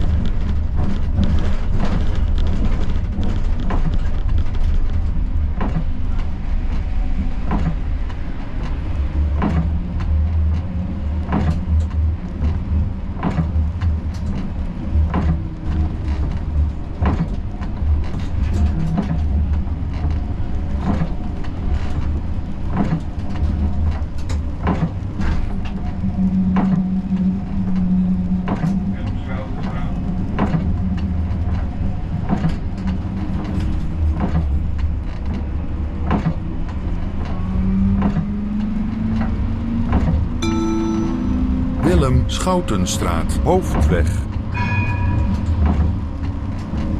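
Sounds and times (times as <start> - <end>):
tram rumbling: 0.0 - 46.9.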